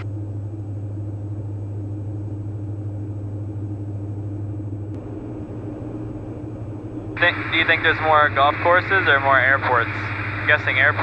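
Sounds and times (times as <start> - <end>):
aircraft engines droning: 0.0 - 11.0.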